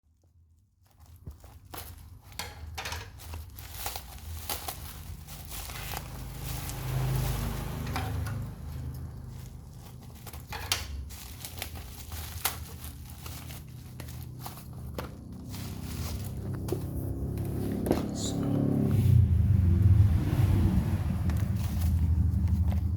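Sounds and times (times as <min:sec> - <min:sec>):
packaging crinkling and rustling: 0:00.1 - 0:18.9, 0:21.2 - 0:22.9.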